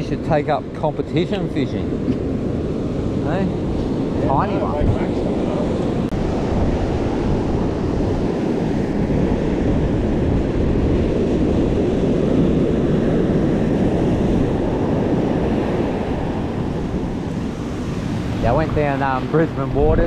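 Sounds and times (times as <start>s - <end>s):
wind buffeting microphone: 0.0s - 20.0s
ocean surf breaking on beach: 1.6s - 20.0s.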